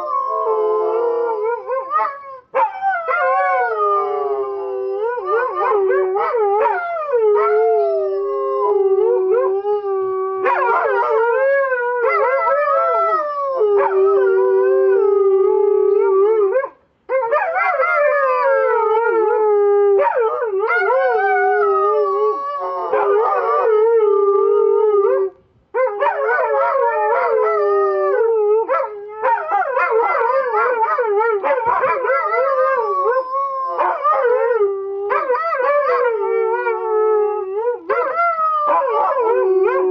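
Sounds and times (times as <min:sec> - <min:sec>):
dogs howling: 0:00.0 - 0:39.9.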